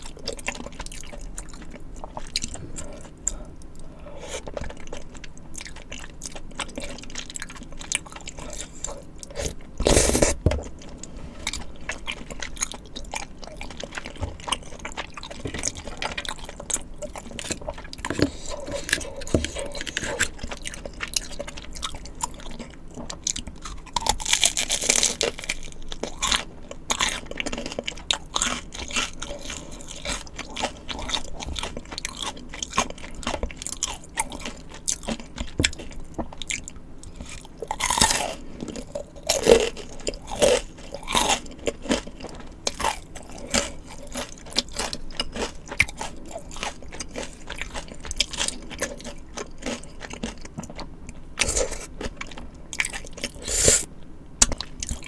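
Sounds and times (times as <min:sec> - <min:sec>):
crunchy bites and chewing: 0:00.0 - 0:55.0.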